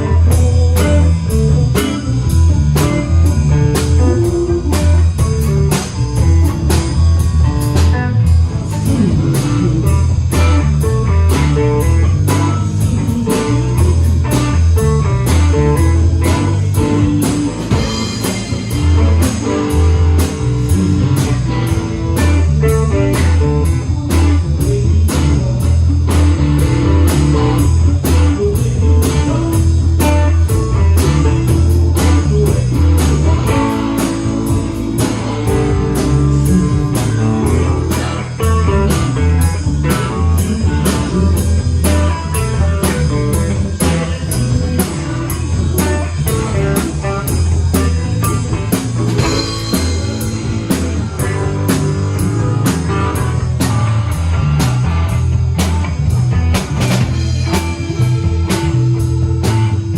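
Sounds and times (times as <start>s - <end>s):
bass guitar: 0.0s - 59.9s
drum kit steady beat: 0.0s - 59.9s
electric guitar: 0.0s - 59.9s.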